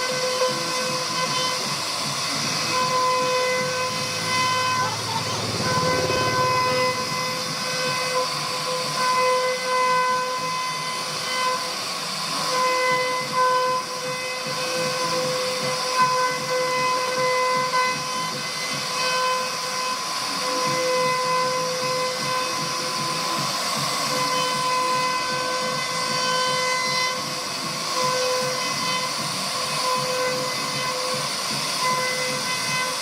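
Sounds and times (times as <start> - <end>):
router spindle high-pitched whine: 0.0 - 33.0.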